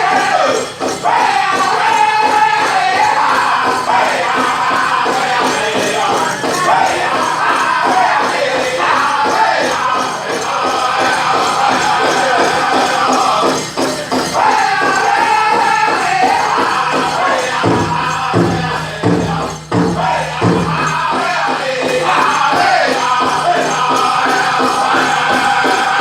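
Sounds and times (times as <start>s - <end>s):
big drum beating: 0.0s - 26.0s
group singing in unison: 0.0s - 26.0s.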